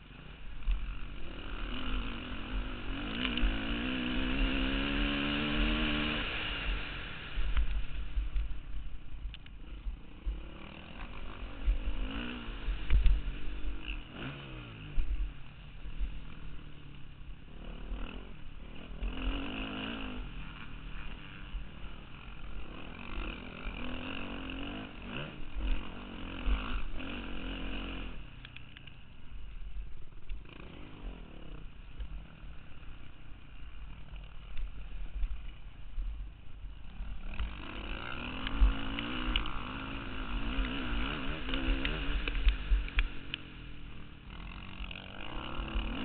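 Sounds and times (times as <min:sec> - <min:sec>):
dirt bike engine revving: 0:00.0 - 0:08.8, 0:09.6 - 0:28.7, 0:30.1 - 0:46.0.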